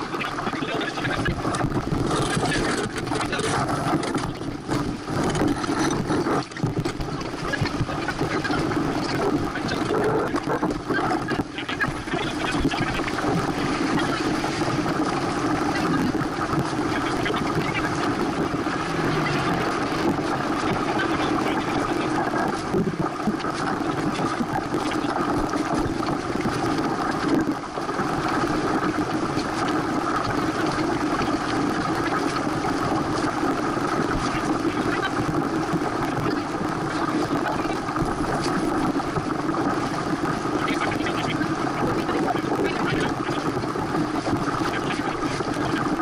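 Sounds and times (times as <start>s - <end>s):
wind and water rushing: 0.0s - 46.0s.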